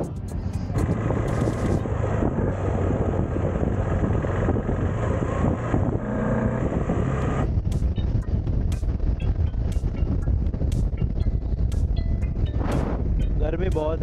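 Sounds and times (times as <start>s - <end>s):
motorcycle engine cruising: 0.0s - 13.6s
wind rushing over microphone: 0.0s - 14.0s.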